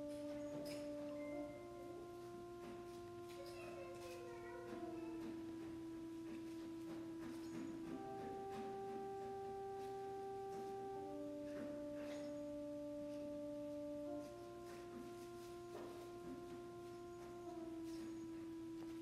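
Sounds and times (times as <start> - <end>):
soft sustained chords: 0.0 - 19.0.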